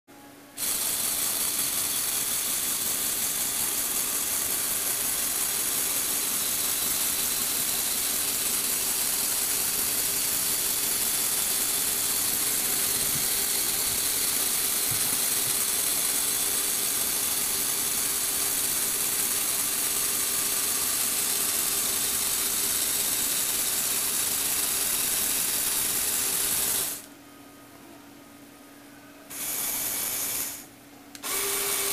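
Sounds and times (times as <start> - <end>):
electric motor and plastic gears running: 0.6 - 27.1, 29.3 - 31.9.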